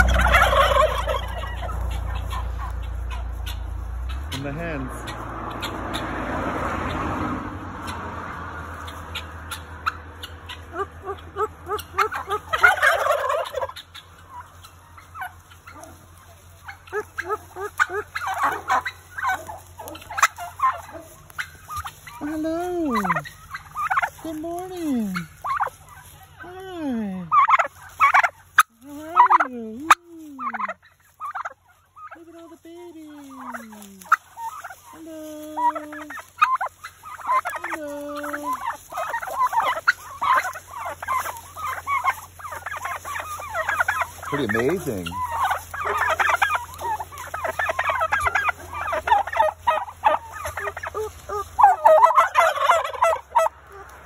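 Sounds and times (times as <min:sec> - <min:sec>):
drawn-out descending turkey calls: 0:00.0 - 0:54.0
turkeys gobbling: 0:00.0 - 0:54.0.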